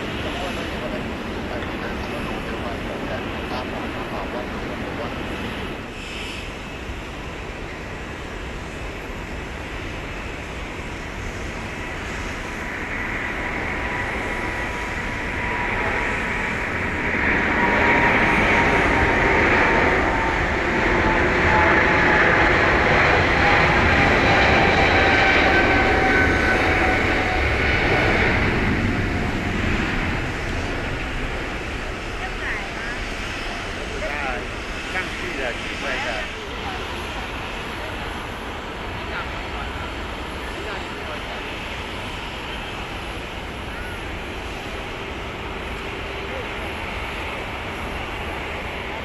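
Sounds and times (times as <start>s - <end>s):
jet engine whine: 0.0s - 49.0s
jet engines rumbling: 0.0s - 49.0s.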